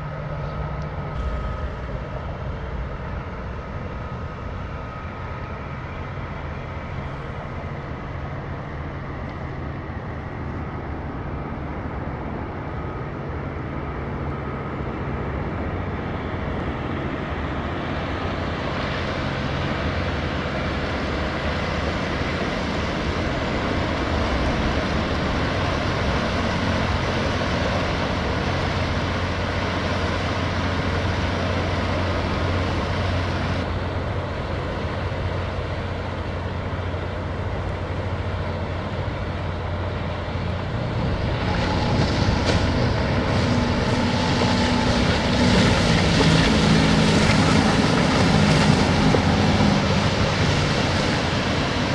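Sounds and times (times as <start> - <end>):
ship diesel engine hum: 0.0 - 51.9
rushing water noise: 4.8 - 51.9.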